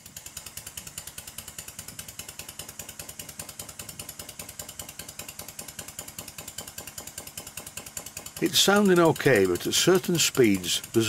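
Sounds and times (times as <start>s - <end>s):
engine knocking: 0.0s - 11.0s
model steam engine exhaust beating: 0.0s - 11.0s.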